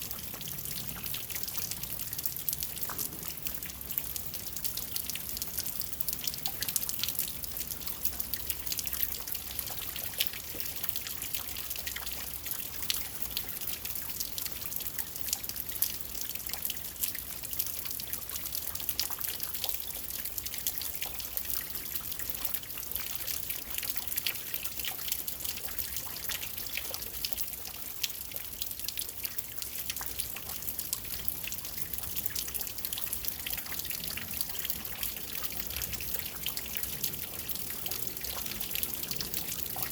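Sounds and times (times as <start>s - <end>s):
drops pattering and dripping: 0.0s - 39.9s
runoff water trickling: 0.0s - 39.9s.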